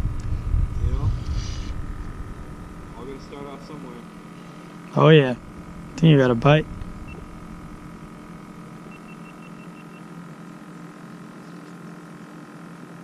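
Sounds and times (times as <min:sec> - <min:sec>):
steady hum with low tones: 0:00.0 - 0:13.0.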